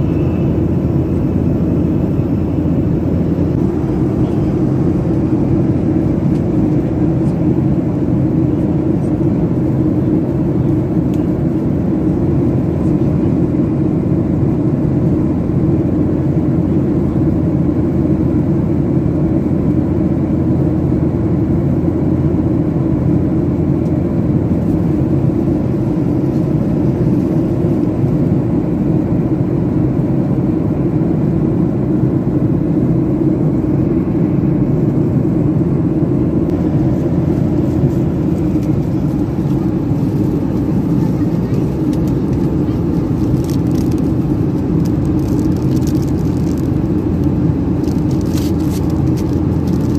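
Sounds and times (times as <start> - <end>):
jet engines droning: 0.0 - 49.9.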